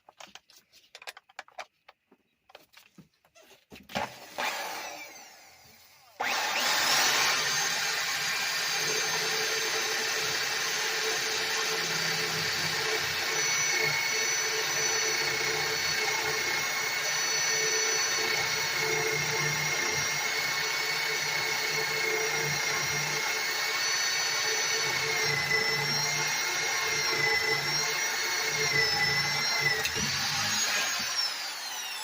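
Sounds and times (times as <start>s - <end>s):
electric drill whining: 3.9s - 32.0s.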